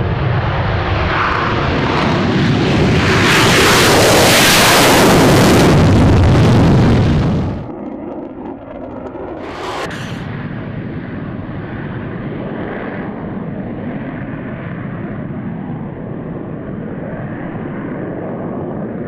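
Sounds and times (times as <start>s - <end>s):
muffled jet engine noise: 0.0s - 19.0s.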